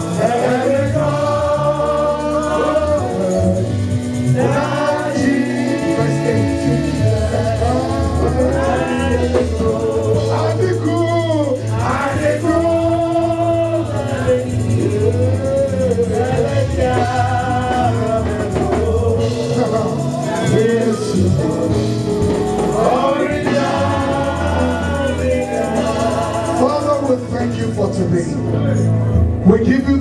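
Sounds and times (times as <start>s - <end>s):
bass accompaniment: 0.0s - 30.0s
voices singing gospel: 0.0s - 30.0s.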